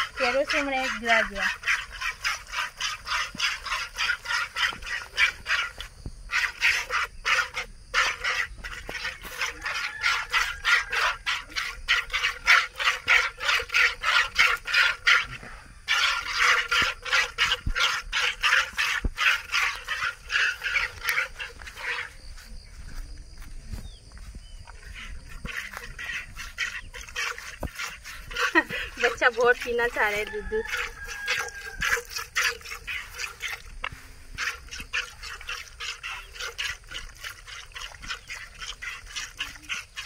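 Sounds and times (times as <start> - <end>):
milk squirting into plastic bucket: 0.0 - 22.5, 24.9 - 40.0.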